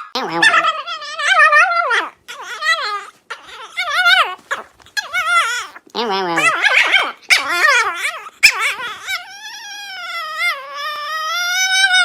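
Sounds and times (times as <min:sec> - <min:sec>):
pet animal wavering cries: 0:00.0 - 0:12.0.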